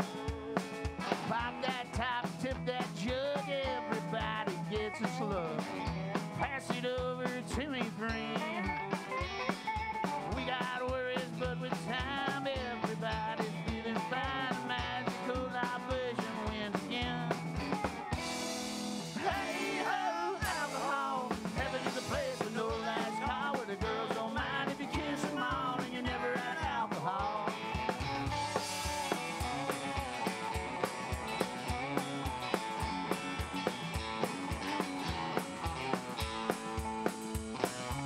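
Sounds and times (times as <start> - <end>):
drum kit beat: 0.0 - 38.0
electric guitars: 0.0 - 38.0
upright bass: 0.0 - 38.0.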